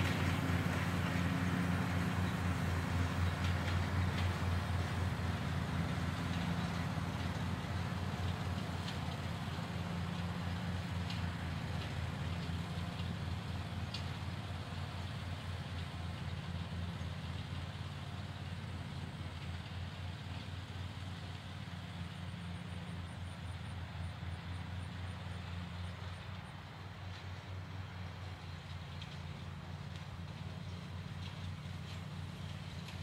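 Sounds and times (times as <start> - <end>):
lawn mower engine humming: 0.0 - 33.0.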